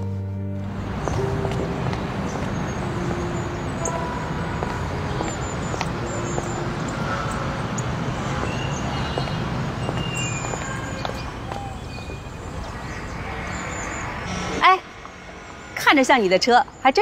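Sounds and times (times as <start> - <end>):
traffic hum: 0.4 - 17.0.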